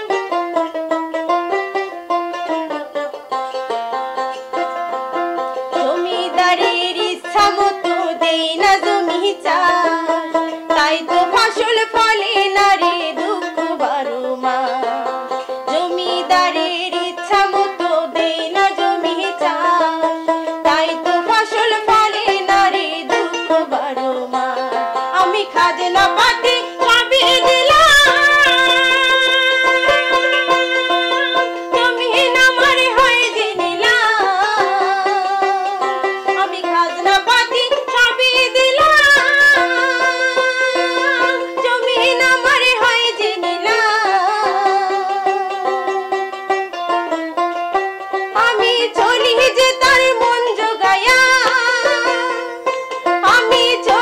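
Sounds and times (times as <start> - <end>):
plucked string instrument: 0.0 - 54.0
woman singing folk song: 0.0 - 54.0.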